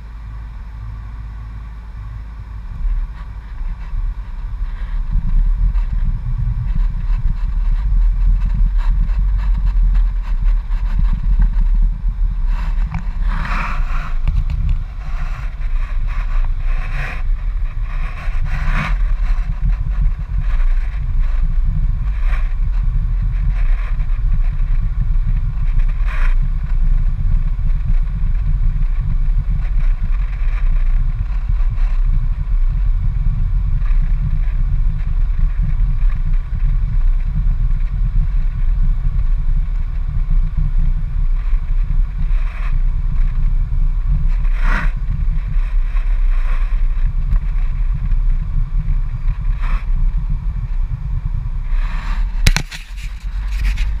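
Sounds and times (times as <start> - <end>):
car driving rumble inside cabin: 0.0 - 54.0.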